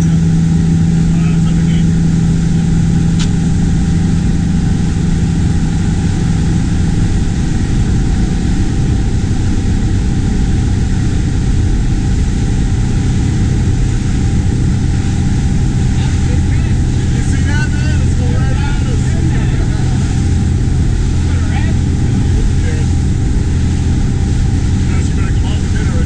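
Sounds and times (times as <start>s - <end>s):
outboard motor droning: 0.0s - 26.0s
water rushing past: 0.0s - 26.0s
wind rushing: 2.0s - 26.0s.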